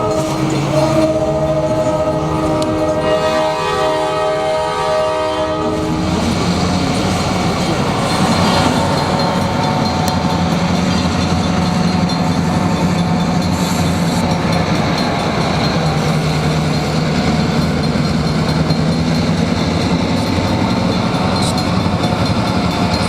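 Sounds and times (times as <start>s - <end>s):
locomotive engines rumbling: 0.0s - 23.0s
locomotive horn chord: 0.0s - 23.0s
train wheels running past: 0.0s - 23.0s.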